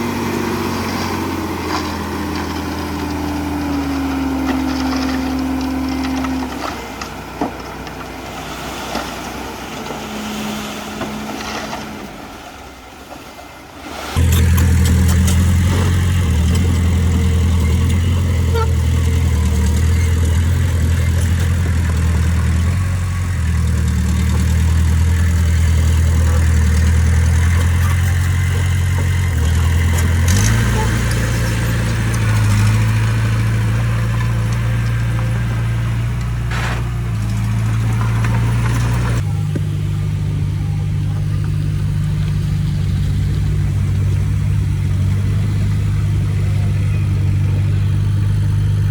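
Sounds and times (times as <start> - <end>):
diesel engine running: 0.0 - 12.8, 14.1 - 48.9.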